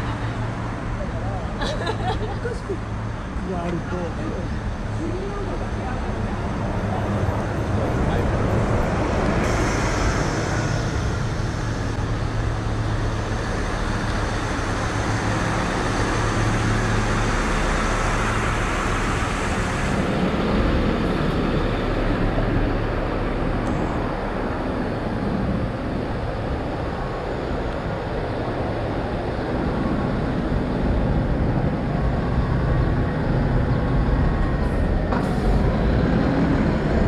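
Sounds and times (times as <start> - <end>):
cars and buses passing: 0.0 - 37.0
low hum: 4.5 - 37.0.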